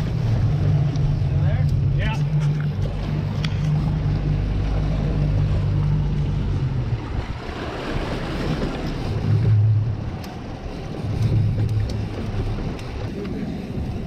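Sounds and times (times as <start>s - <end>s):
outboard motors humming: 0.0s - 14.0s
water washing against hull: 0.0s - 14.0s
wind on microphone: 0.0s - 14.0s.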